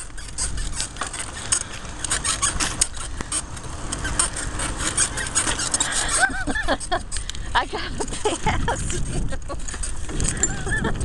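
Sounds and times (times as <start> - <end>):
bicycle rattling and clicking: 0.0 - 11.0
bicycle rolling on gravel: 0.0 - 11.0.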